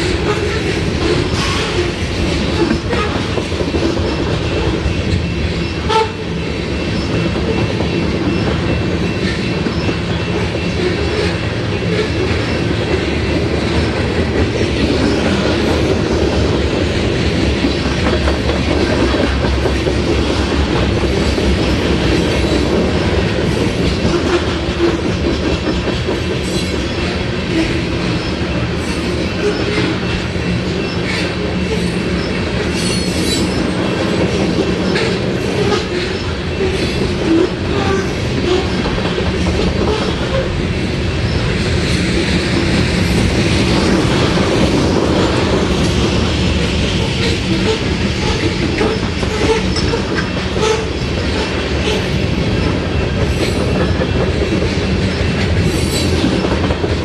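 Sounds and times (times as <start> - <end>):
train wheels clattering on rails: 0.0 - 57.0.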